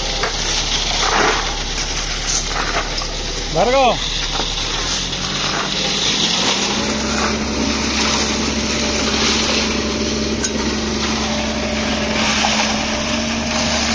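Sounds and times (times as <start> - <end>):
small engine running: 0.0 - 13.9.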